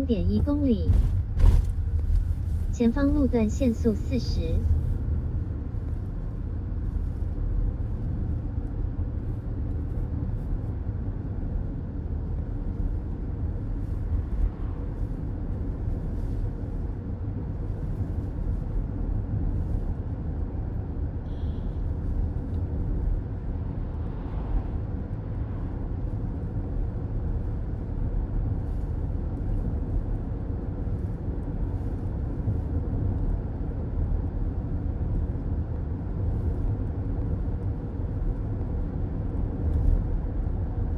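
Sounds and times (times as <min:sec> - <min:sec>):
car road noise from inside: 0:00.0 - 0:40.9.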